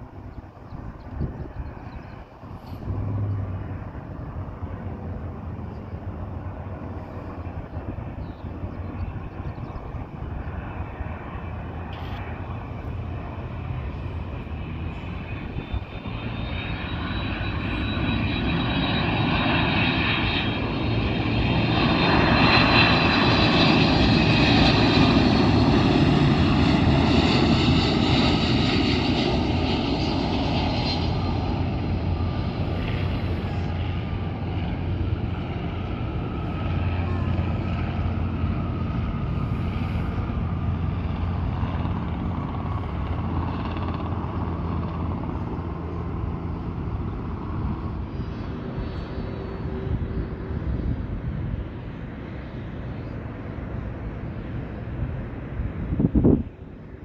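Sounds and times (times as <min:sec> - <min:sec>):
jet plane landing: 0:00.0 - 0:57.0.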